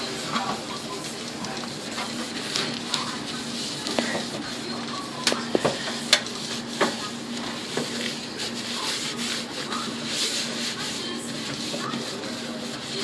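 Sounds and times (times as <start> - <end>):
paper towel wiping microwave: 0.0 - 13.0.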